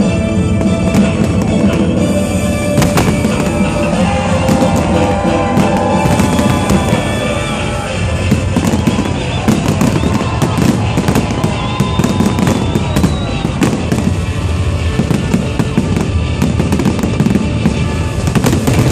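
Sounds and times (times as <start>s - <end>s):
fireworks bangs and crackles: 0.0s - 18.9s.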